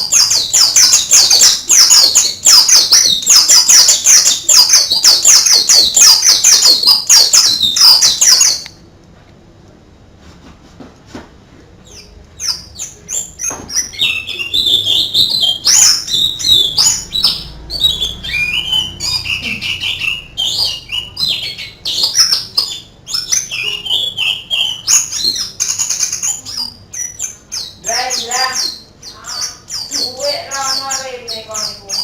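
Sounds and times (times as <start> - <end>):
bird singing chirps and trills: 0.0 - 8.8, 11.8 - 32.0.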